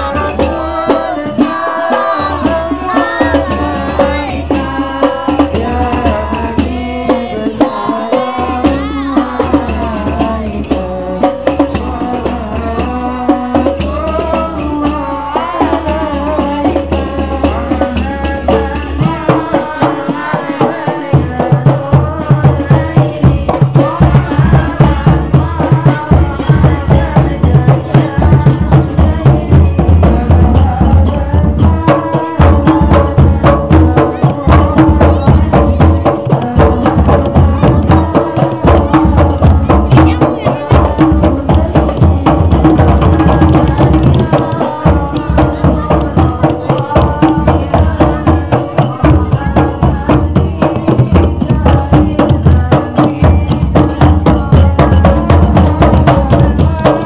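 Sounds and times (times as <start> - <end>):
group singing over loudspeaker: 0.0 - 57.0
hand drums beating fast: 0.0 - 57.0
jingling hand percussion: 0.0 - 57.0.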